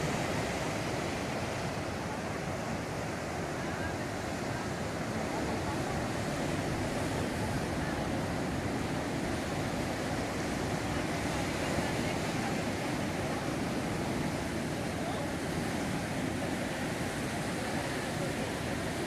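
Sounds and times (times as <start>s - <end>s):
waves breaking on sandy beach: 0.0s - 19.0s.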